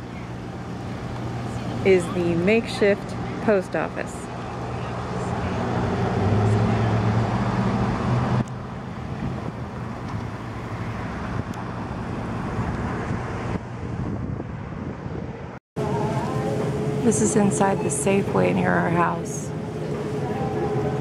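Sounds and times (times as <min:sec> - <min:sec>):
street noise: 0:00.0 - 0:21.0
vehicle engine running close by: 0:00.0 - 0:21.0.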